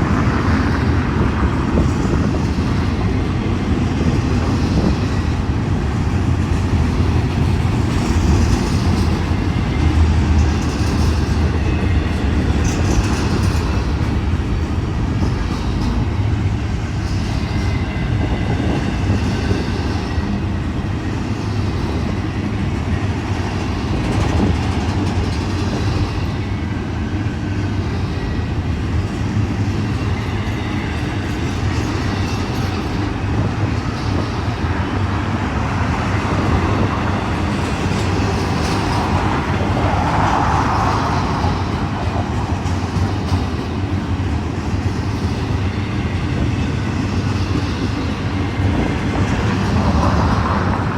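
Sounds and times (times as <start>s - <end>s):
freight train wheels on rails: 0.0s - 50.9s.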